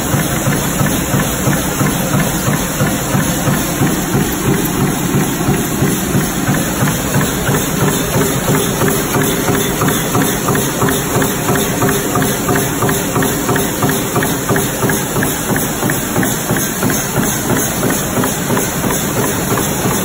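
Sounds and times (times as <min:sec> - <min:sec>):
stamping press punching metal: 0:00.0 - 0:20.0.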